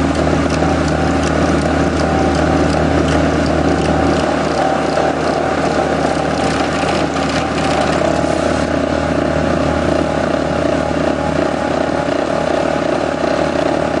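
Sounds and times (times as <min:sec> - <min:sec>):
excavator engine running: 0:00.0 - 0:14.0
hydraulic compactor vibrating: 0:00.0 - 0:14.0.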